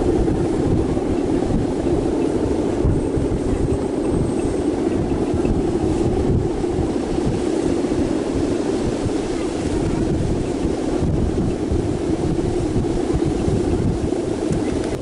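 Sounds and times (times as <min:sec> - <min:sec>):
steady drone: 0:00.0 - 0:15.0
wind buffeting microphone: 0:00.0 - 0:15.0.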